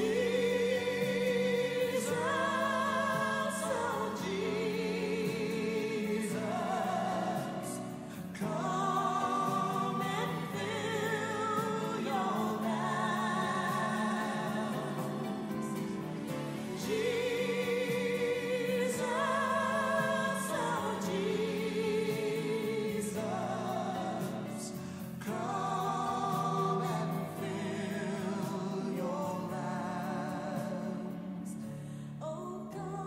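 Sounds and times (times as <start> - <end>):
piano accompaniment: 0.0 - 31.4
person singing a hymn: 0.0 - 33.0.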